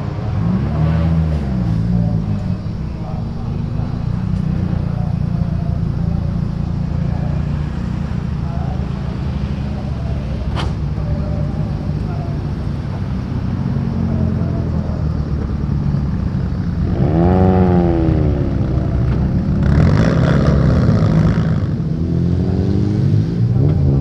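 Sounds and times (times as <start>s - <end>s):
car engines rumbling: 0.0s - 24.0s
car exhaust rush pulling away: 0.0s - 24.0s
engine revving: 0.0s - 24.0s.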